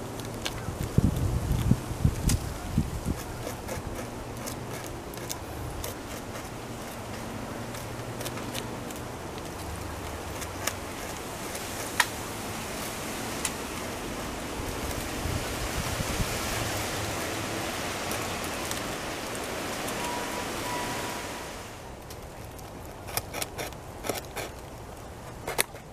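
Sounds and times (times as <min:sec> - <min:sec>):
beaver gnawing wood: 0:00.0 - 0:20.6, 0:21.9 - 0:25.9
steady rushing hiss: 0:00.0 - 0:25.9.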